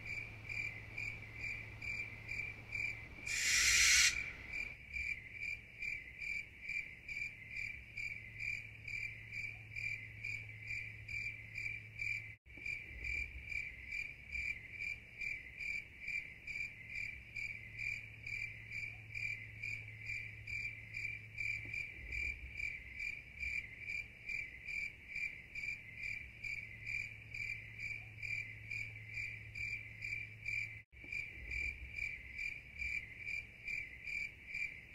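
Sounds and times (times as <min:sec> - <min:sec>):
crickets chirping: 0:00.0 - 0:12.8, 0:13.4 - 0:34.9.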